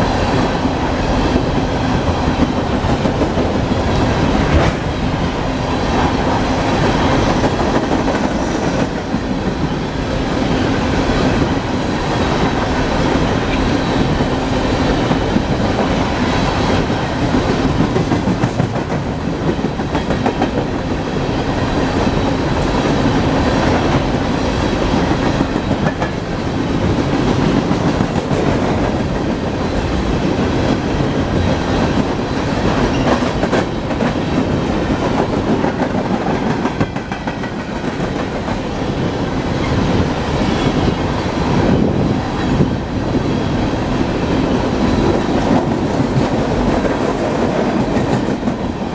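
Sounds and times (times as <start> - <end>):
clickety-clack over rail joints: 0.0 - 48.9
train wheels rumbling on rails: 0.0 - 48.9.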